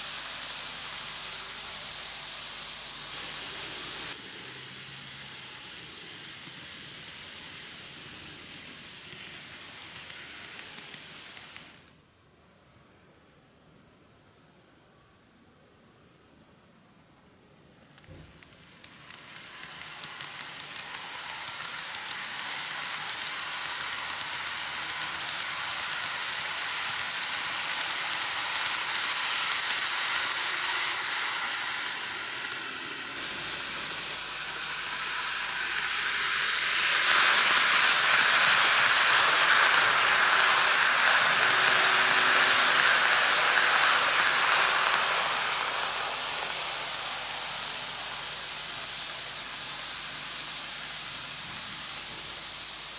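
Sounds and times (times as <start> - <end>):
model train wheels on rails: 0.0 - 12.1, 17.2 - 52.9.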